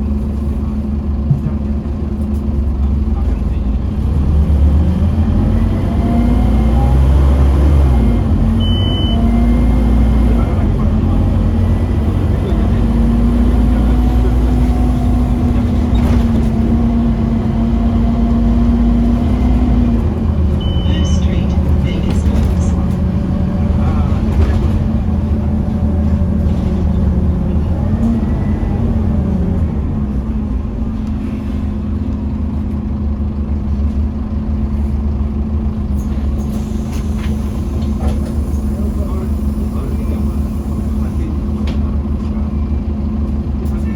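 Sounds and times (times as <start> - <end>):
diesel bus engine drone: 0.0 - 43.9.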